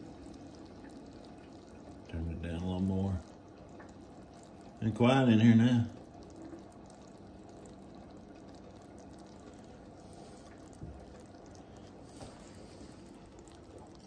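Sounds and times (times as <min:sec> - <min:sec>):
syrup bubbling in a pot: 0:00.0 - 0:14.0.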